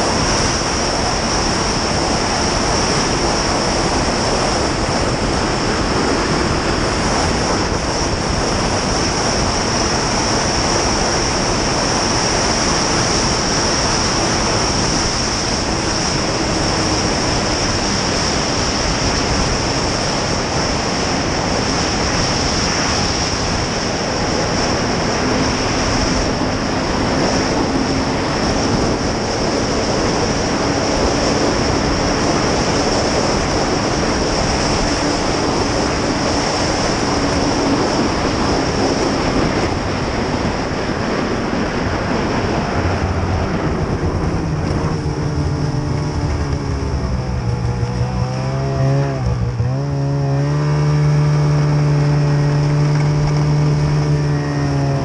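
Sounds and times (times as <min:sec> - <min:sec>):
snowmobile engine running: 0:00.0 - 0:55.0
wind rushing over microphone: 0:00.0 - 0:55.0.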